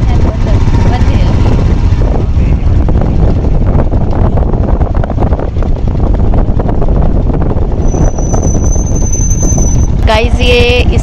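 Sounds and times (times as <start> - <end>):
vehicle road noise: 0.0 - 11.0
wind buffeting microphone: 0.0 - 11.0.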